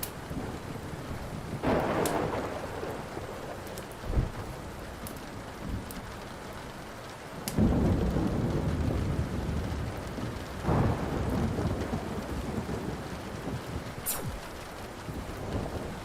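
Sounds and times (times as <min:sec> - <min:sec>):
fire crackle: 0:00.0 - 0:16.0
steady rain: 0:00.0 - 0:16.0
thunder rumbling: 0:00.0 - 0:16.0.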